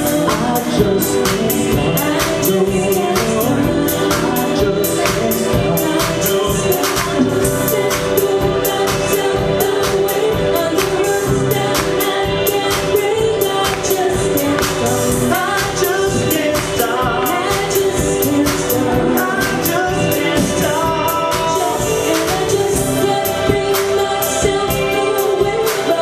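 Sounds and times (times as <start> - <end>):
live band music: 0.0 - 26.0
person singing: 0.0 - 26.0.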